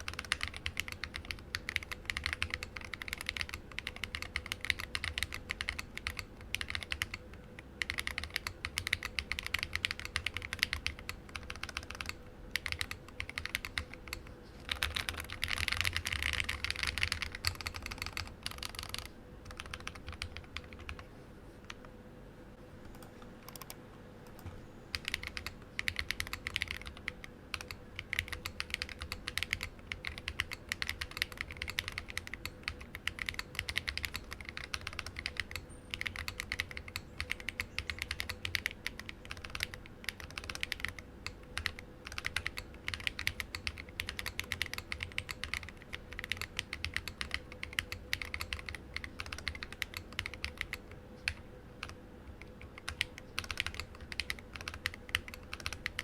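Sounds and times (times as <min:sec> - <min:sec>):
mechanical keyboard typing: 0:00.0 - 0:21.9, 0:22.9 - 0:56.0.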